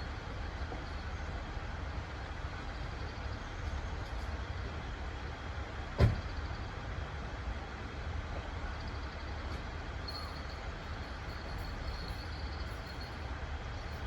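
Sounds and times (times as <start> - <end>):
diesel railcar idling: 0.0 - 14.0.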